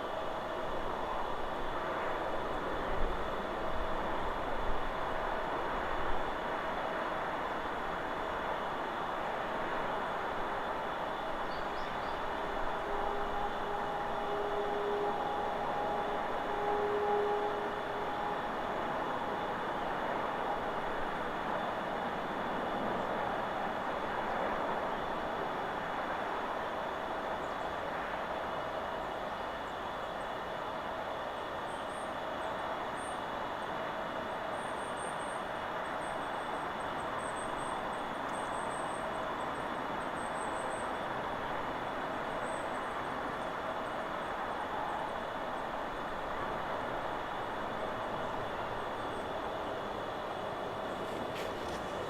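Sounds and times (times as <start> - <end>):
wind through trees: 0.0 - 52.0.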